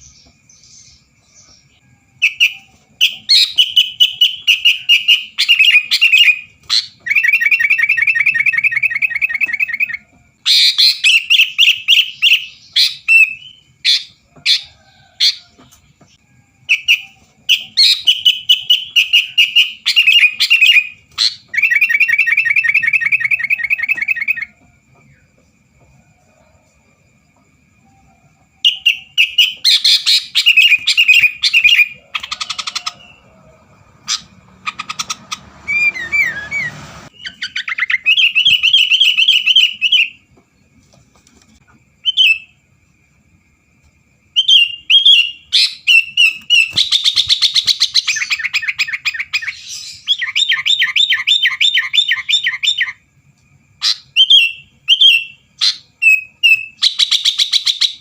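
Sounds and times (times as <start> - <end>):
bird chirping and trilling: 0.0 - 15.4, 16.6 - 25.2, 28.6 - 33.4, 34.0 - 40.2, 42.0 - 42.6, 44.4 - 53.0, 53.8 - 58.0.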